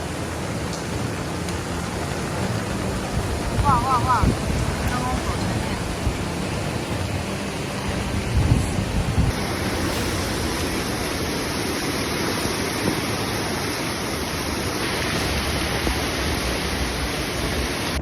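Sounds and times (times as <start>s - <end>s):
torrential rain: 0.0s - 18.0s
wind: 0.0s - 18.0s.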